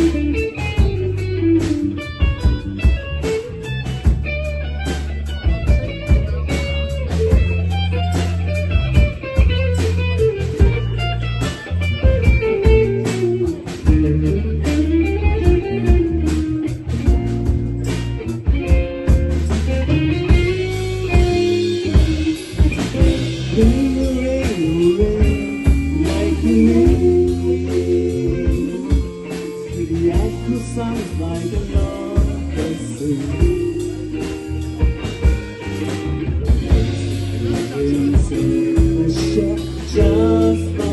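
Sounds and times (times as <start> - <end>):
drum kit beat: 0.0 - 40.9
guitar melody: 0.0 - 40.9
live rock band playing blues: 0.0 - 40.9.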